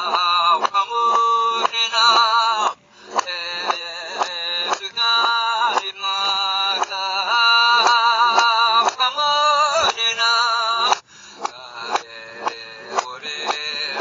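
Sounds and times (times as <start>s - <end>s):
person singing: 0.0s - 14.0s
steady music beat: 0.0s - 14.0s.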